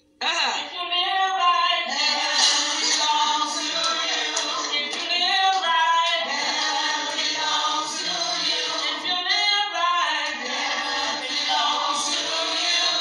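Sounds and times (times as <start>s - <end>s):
choir singing: 1.8s - 13.0s.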